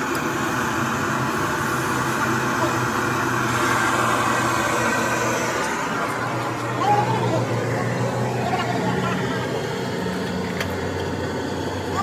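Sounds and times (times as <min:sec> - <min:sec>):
constant noisy hiss: 0:00.0 - 0:12.0
low mechanical hum: 0:00.0 - 0:12.0.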